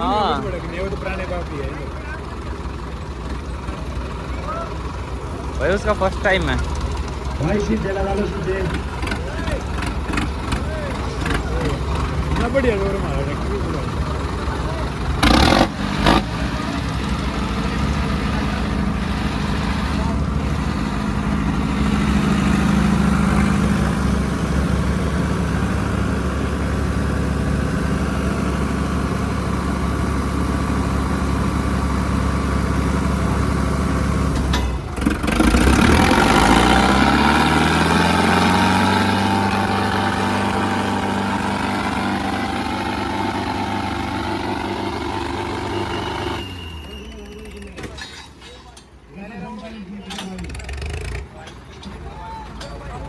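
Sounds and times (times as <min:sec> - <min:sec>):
tractor diesel engines under load: 0:00.0 - 0:53.0.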